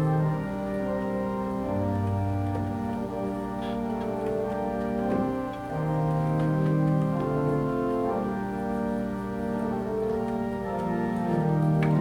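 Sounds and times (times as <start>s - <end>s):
organ playing slow chords: 0.0s - 12.0s.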